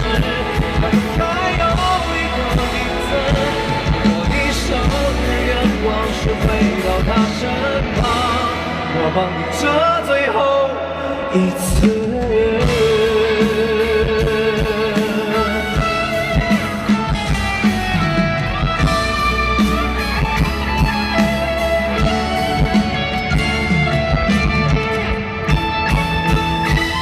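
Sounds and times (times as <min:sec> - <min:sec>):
guitar: 0:00.0 - 0:27.0
pop ballad band playing: 0:00.0 - 0:27.0.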